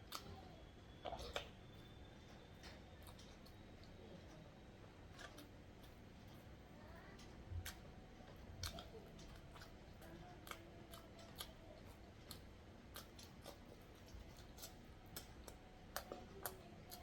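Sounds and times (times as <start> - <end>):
quiet chewing with wet clicks: 0.0 - 17.0.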